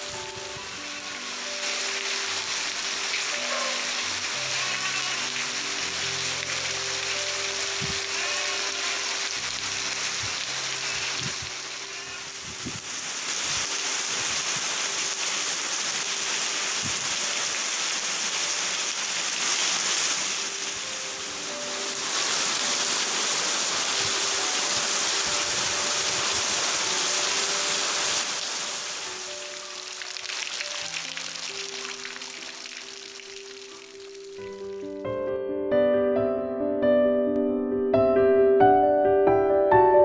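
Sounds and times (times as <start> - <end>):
heavy rain on foliage: 0.0 - 35.0.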